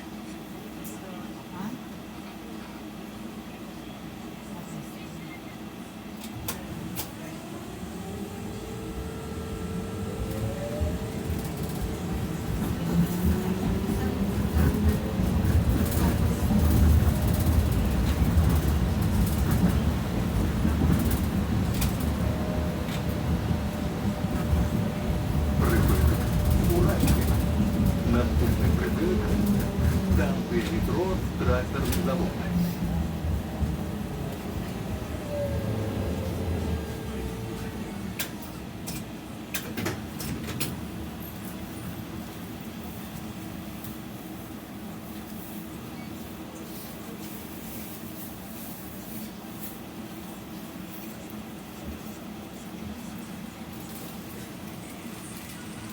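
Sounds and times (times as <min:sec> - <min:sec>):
tram rumbling along track: 0:00.0 - 0:55.9.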